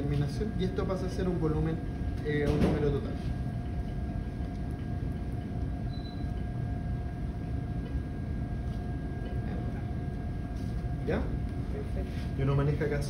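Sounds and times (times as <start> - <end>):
medical equipment humming: 0.0 - 13.0.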